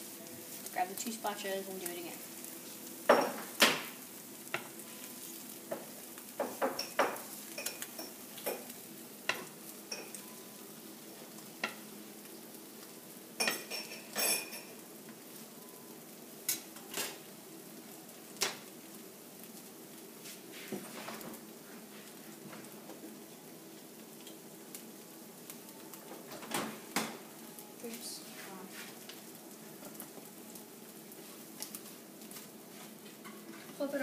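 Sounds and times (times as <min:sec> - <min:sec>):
omelet sizzling in a frying pan: 0:00.0 - 0:34.0.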